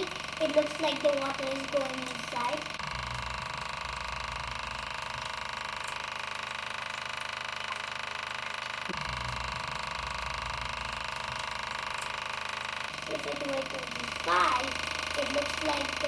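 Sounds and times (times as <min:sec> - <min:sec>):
subwoofer low test tone buzz: 0:00.0 - 0:16.0.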